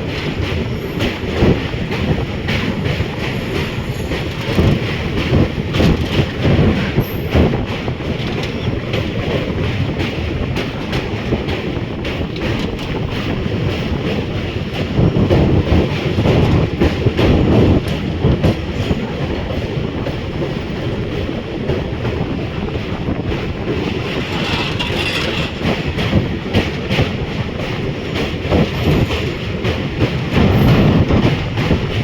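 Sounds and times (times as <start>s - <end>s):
train rumbling along track: 0.0s - 32.0s
wheels clicking over rail joints: 0.0s - 32.0s.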